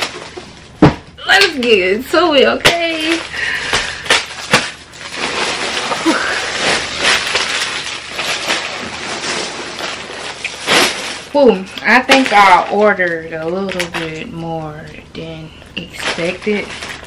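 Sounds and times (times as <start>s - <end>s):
plastic bags rustling and crinkling: 0.0s - 17.0s.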